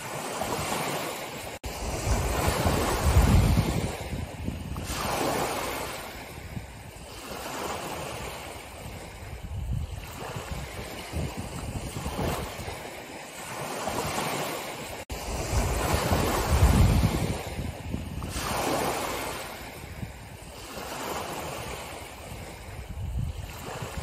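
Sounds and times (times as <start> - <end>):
small sea waves breaking on shore: 0.0 - 24.0.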